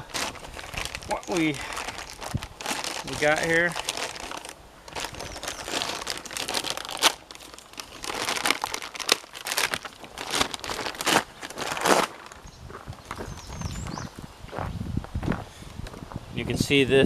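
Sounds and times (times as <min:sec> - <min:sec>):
packaging crinkling and rustling: 0:00.0 - 0:13.8.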